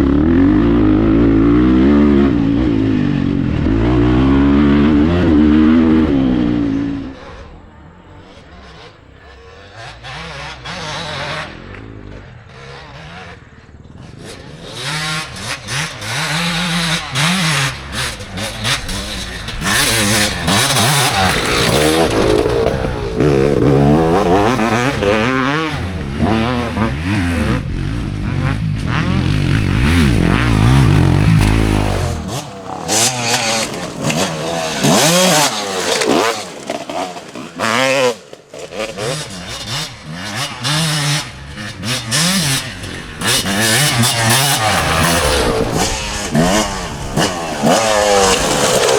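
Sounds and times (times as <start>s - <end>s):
motorcycles revving past: 0.0s - 48.9s.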